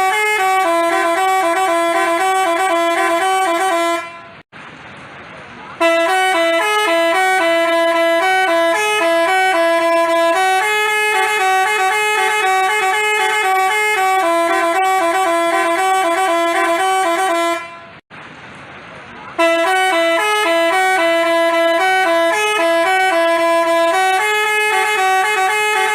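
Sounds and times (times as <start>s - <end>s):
bus horn playing a tune: 0.0s - 4.5s, 5.8s - 18.0s, 19.4s - 25.9s.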